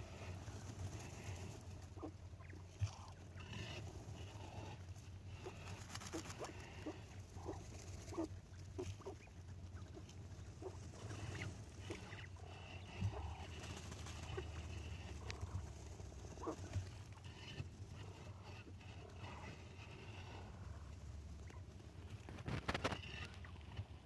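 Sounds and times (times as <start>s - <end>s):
low steady hum: 0.0s - 24.0s
quail peeping: 0.0s - 24.0s.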